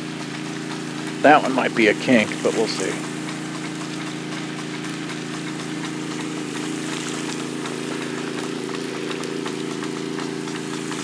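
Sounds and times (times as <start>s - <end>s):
small gasoline engine running: 0.0s - 11.0s
sprinkler spray hissing: 0.0s - 11.0s.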